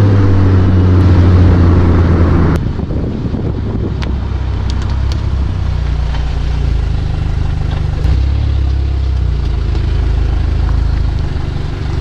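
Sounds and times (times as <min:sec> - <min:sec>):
car exhaust low drone: 0:00.0 - 0:12.0.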